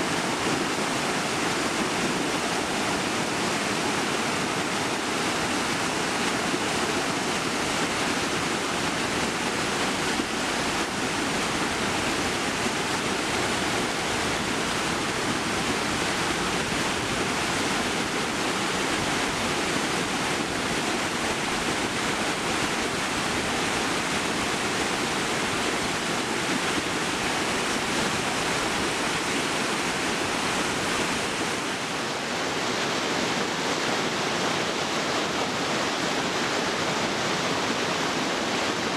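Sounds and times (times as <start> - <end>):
water rushing over boulders: 0.0 - 38.9.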